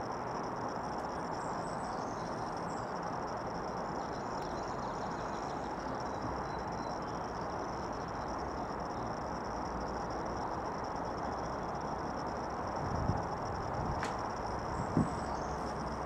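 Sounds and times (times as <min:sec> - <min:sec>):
broad background hiss: 0:00.0 - 0:16.0
insects trilling: 0:00.0 - 0:16.0.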